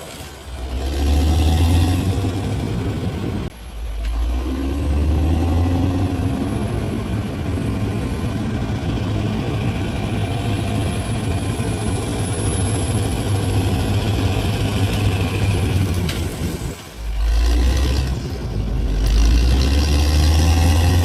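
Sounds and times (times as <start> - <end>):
bulldozer diesel engine: 0.0 - 21.0.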